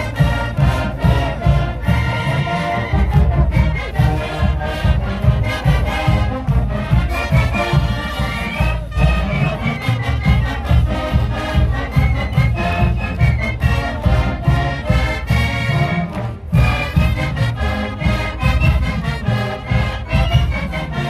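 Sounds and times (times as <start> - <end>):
marching band brass: 0.0 - 21.0
steady drum beat: 0.0 - 21.0.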